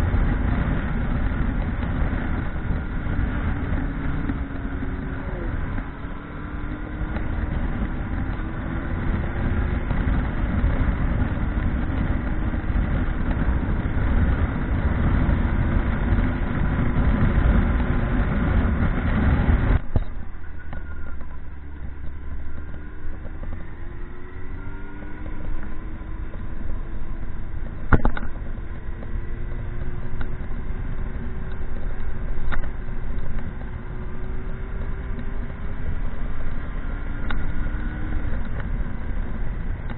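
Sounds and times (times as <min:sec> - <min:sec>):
heavy wind noise: 0:00.0 - 0:39.9
motorcycle engine revving: 0:00.0 - 0:39.9.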